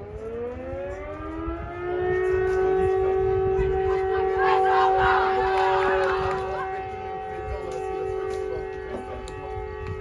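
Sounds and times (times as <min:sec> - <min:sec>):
siren wailing: 0:00.0 - 0:10.0
voices: 0:00.8 - 0:10.0.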